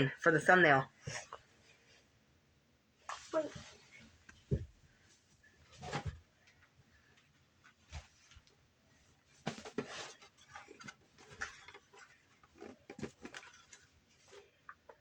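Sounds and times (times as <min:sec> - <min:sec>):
rustling of blankets: 0:03.0 - 0:15.0.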